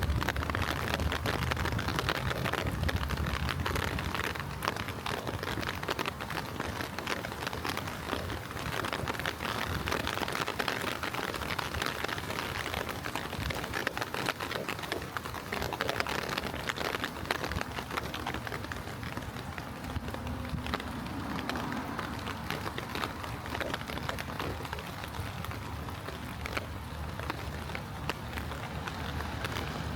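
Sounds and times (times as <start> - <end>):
sharp raindrop hits close by: 0.0 - 29.9
steady rain falling: 0.0 - 29.9.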